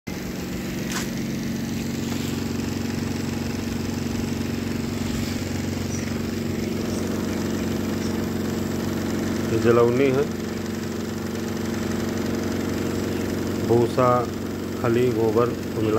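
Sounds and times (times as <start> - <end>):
boiler machinery droning: 0.1 - 15.9.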